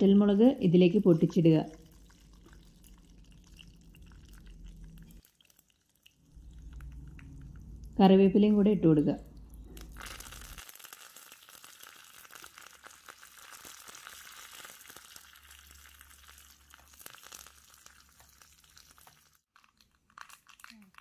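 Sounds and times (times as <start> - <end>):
spices crackling in hot oil: 0.0 - 8.4, 9.3 - 21.0.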